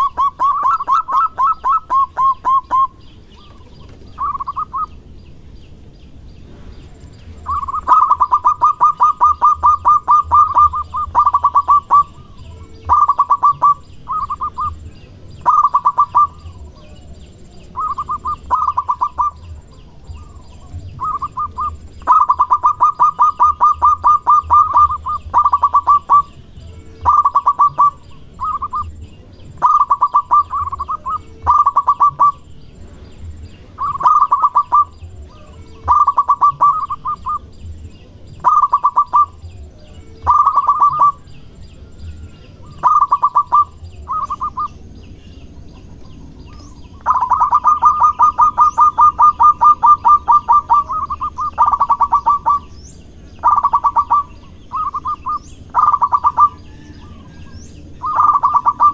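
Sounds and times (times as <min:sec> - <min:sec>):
dove cooing: 0:00.0 - 0:05.0, 0:07.2 - 0:32.6, 0:33.7 - 0:44.9, 0:45.5 - 0:58.9.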